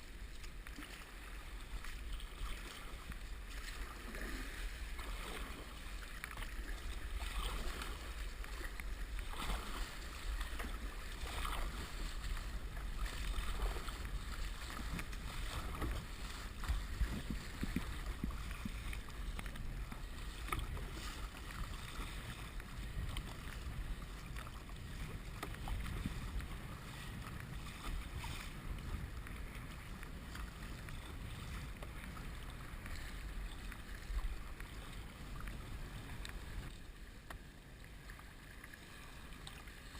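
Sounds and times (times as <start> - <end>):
paddle splashing water: 0.0 - 39.9
wind rumble on microphone: 0.0 - 39.9.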